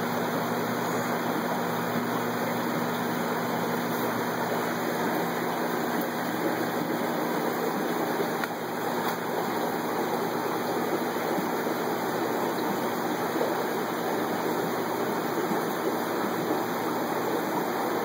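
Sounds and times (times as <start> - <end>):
aquarium air stones bubbling: 0.0 - 18.0
low steady hum: 0.0 - 18.0.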